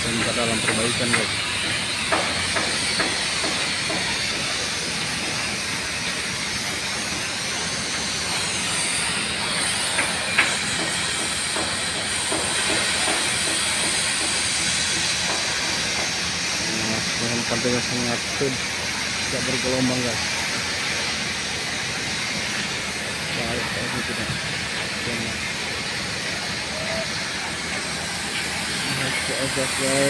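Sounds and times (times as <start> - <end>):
loud hissing noise: 0.0 - 30.0.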